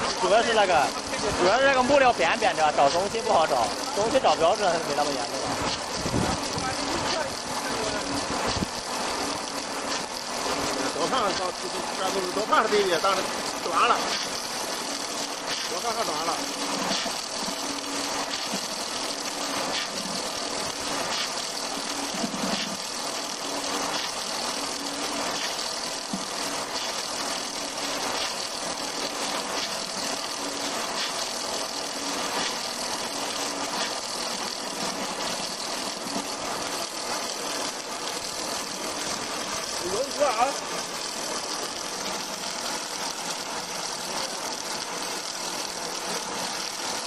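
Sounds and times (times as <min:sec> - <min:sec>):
wood lathe motor whirring: 0:00.0 - 0:47.0.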